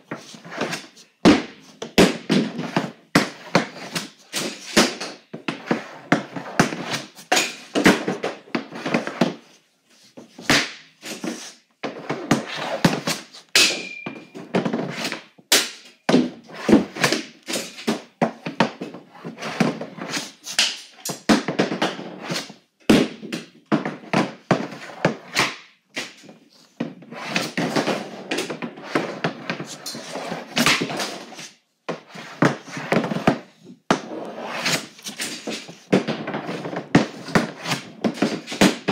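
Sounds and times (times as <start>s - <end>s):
pucks hitting wooden backstop: 0.0s - 9.5s, 10.2s - 38.9s.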